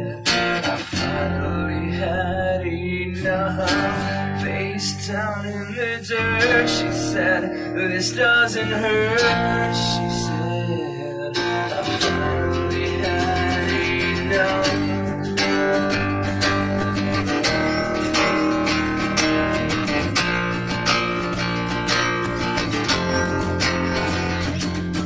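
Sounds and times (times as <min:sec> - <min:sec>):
acoustic guitars strumming: 0:00.0 - 0:25.0.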